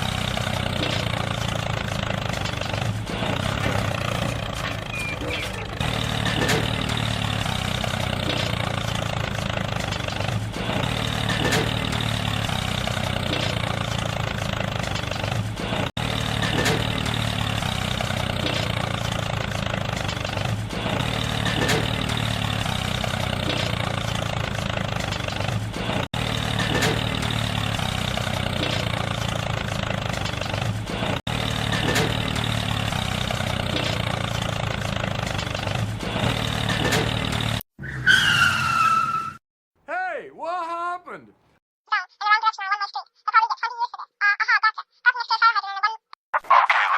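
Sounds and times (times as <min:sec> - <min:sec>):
tractor engine running: 0:00.0 - 0:37.6.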